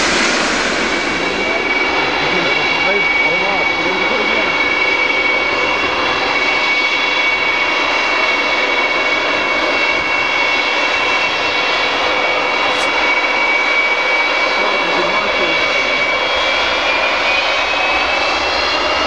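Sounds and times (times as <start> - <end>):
high jet engine whine: 0.0 - 19.0
jet engines roaring: 0.0 - 19.0.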